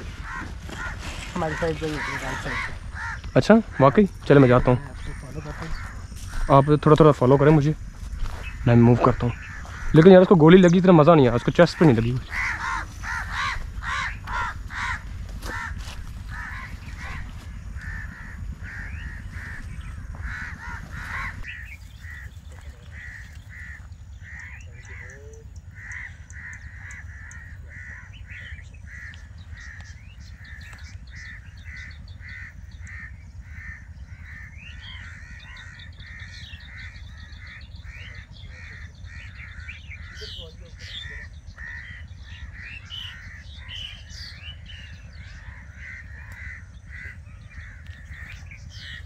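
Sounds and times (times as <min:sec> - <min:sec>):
bird calling in harsh notes: 0:00.0 - 0:49.0
low wind rumble on microphone: 0:00.0 - 0:49.0.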